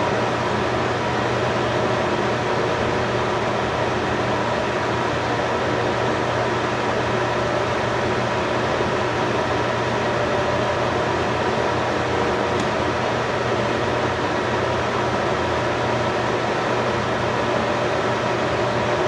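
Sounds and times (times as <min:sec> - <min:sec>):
mechanical hum with whirring: 0:00.0 - 0:19.0.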